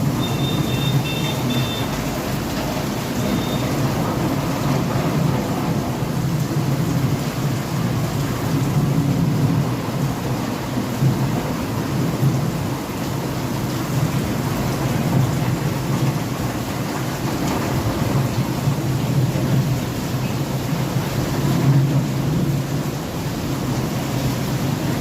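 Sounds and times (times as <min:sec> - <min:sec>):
heavy rain hiss: 0:00.0 - 0:25.0.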